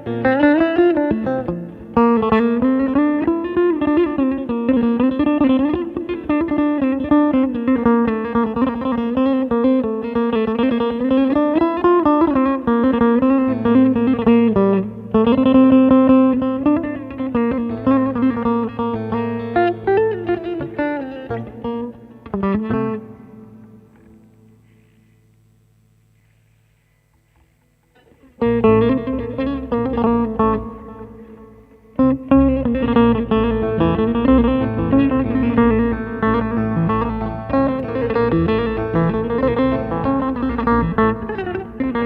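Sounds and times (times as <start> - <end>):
plucked string melody: 0.0 - 24.8, 27.8 - 42.0.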